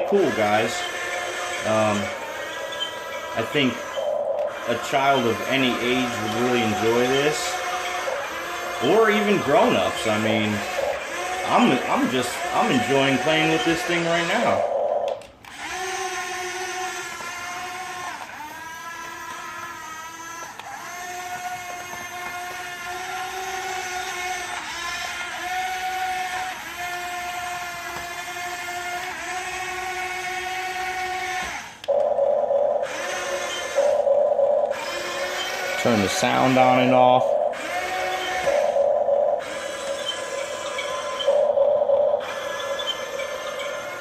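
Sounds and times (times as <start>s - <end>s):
rough motor buzz: 0.0s - 44.0s
small electric motors whining: 0.0s - 44.0s.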